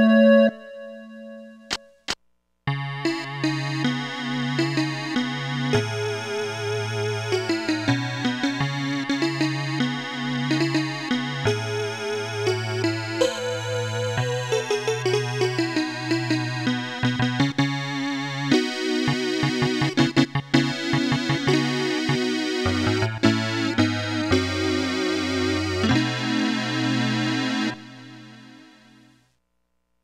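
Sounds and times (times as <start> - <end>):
electronic keyboard playing: 2.7 - 29.0.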